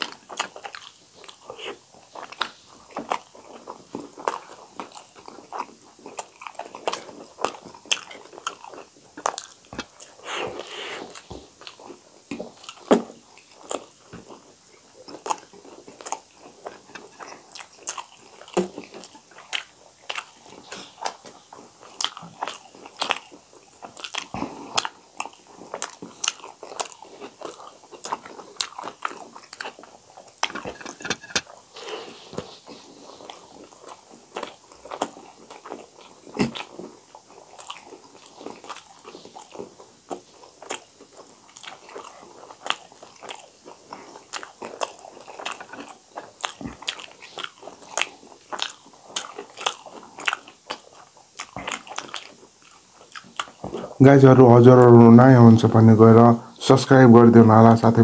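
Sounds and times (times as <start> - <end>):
close chewing: 0.0 - 58.0.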